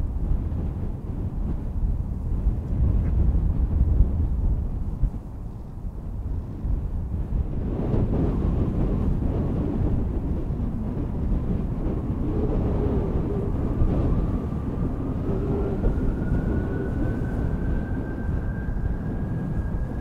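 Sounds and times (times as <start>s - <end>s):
jet engines rumbling: 0.0s - 20.0s
rising engine whine: 0.0s - 20.0s.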